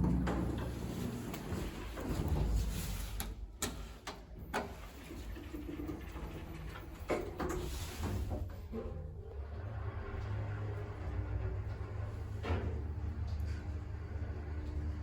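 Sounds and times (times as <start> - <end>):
elevator low rumble: 0.0 - 15.0.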